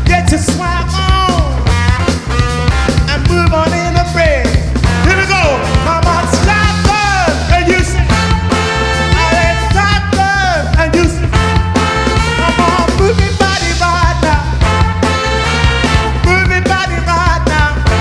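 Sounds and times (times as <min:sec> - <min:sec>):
driving bass line: 0:00.0 - 0:18.0
live band playing soul music: 0:00.0 - 0:18.0.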